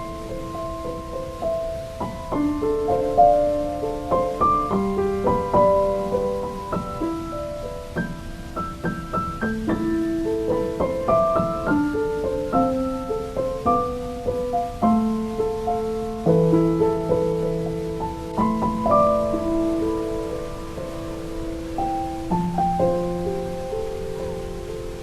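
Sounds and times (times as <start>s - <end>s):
calm piano music: 0.0s - 25.0s.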